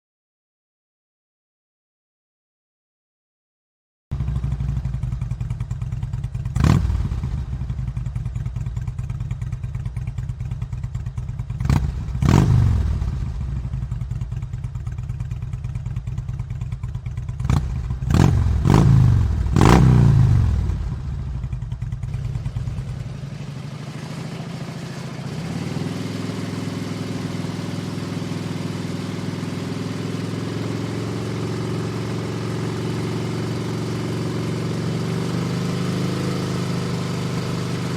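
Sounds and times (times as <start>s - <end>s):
motorcycle engine idling: 4.1s - 37.9s
motorcycle throttle revs: 4.2s - 37.9s.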